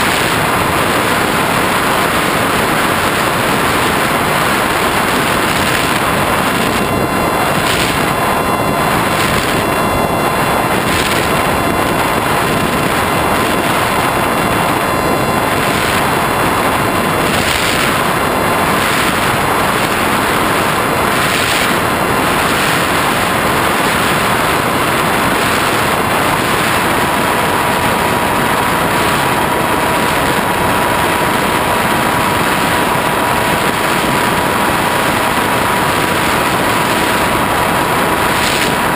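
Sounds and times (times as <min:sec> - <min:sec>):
motor and propeller whine: 0:00.0 - 0:38.9
wind rush on microphone: 0:00.0 - 0:38.9.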